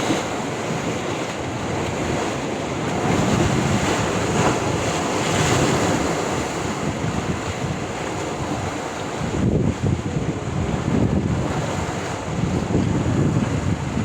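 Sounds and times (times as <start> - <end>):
sea waves breaking on shore: 0.0 - 14.0
wind buffeting microphone: 0.0 - 14.0.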